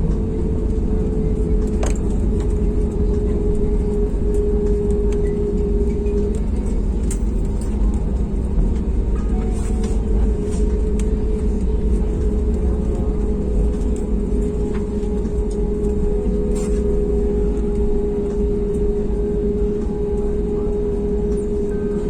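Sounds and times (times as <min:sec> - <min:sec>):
airplane engine rumble in cabin: 0:00.0 - 0:22.0.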